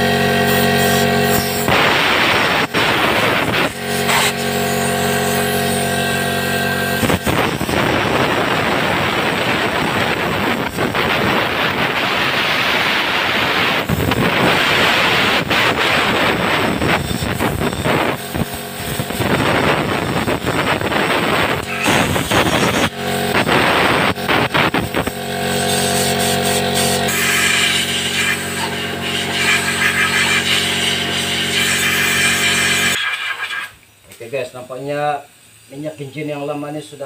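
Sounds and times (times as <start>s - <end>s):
compressor motor running: 0.0s - 33.8s
compressed air hissing: 0.4s - 6.3s, 6.9s - 34.1s.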